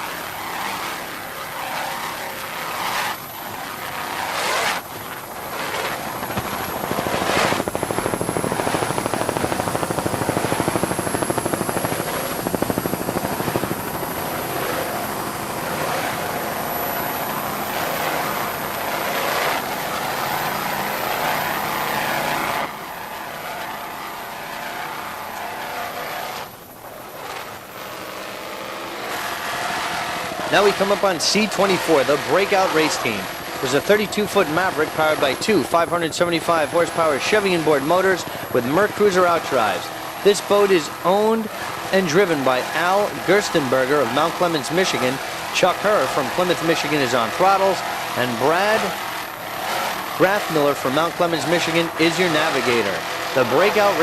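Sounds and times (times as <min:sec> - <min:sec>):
helicopter rotor chopping: 0:00.0 - 0:54.0.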